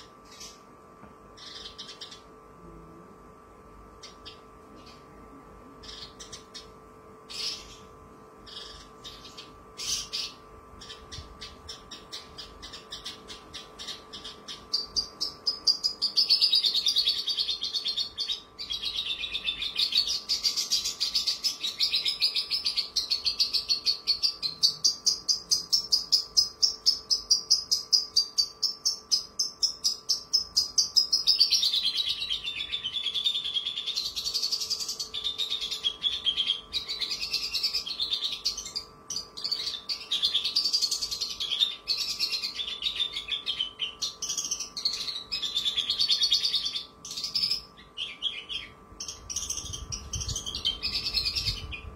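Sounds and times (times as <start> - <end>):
bird singing chattering trills: 0.0 - 0.7, 1.3 - 2.4, 4.0 - 5.2, 5.8 - 51.9
faint steady hum: 0.0 - 51.9.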